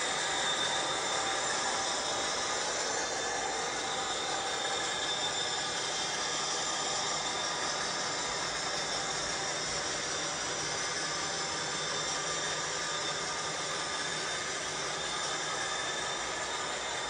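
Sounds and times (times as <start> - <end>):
model train running: 0.0 - 17.0.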